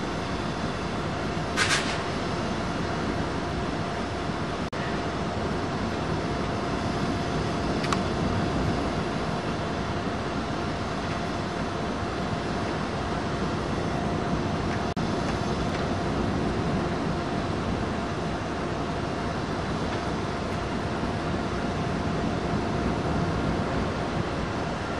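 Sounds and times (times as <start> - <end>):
diesel locomotive engine running: 0.0 - 24.9.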